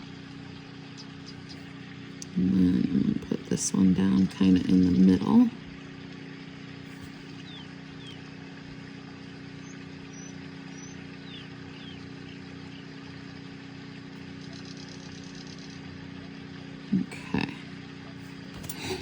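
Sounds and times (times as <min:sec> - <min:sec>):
low background hum with tones: 0:00.0 - 0:19.0.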